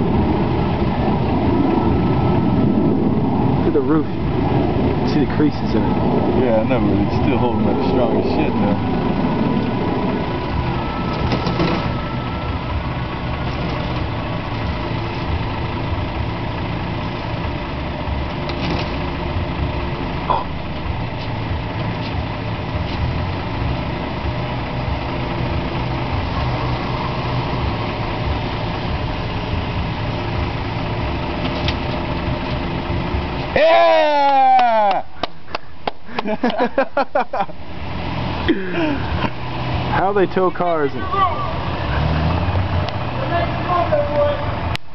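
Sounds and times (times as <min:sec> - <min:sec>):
truck engine idling: 0:00.0 - 0:44.9.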